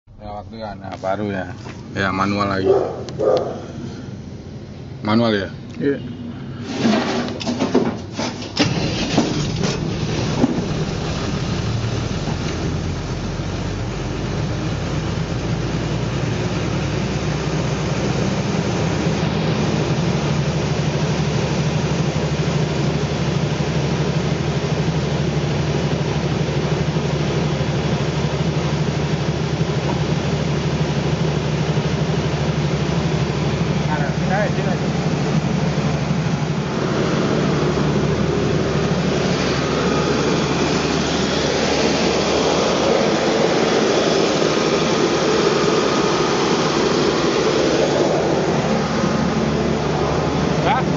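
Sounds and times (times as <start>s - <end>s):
diesel generator engine starting: 0.1s - 50.9s.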